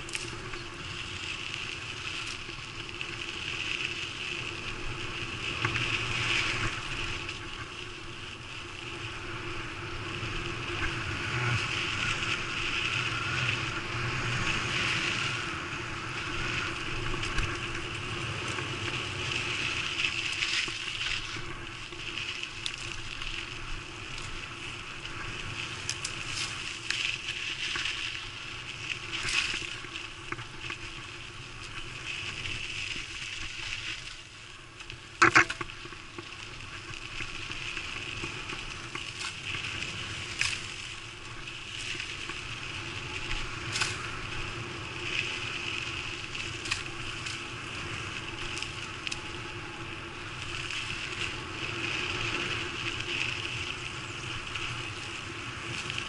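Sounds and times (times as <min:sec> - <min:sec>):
bike rattling and buzzing: 0:00.0 - 0:56.0.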